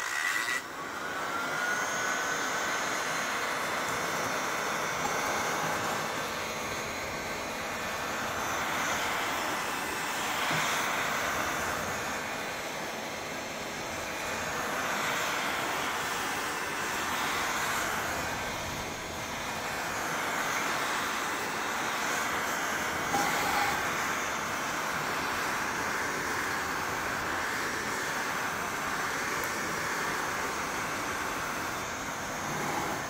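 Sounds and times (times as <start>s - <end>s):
heat gun blowing air: 0.0s - 33.0s.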